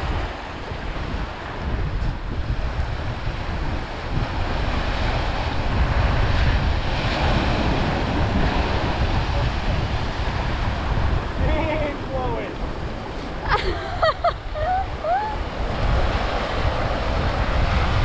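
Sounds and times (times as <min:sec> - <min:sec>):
surf washing over rocks: 0:00.0 - 0:18.0
wind buffeting microphone: 0:00.0 - 0:18.0.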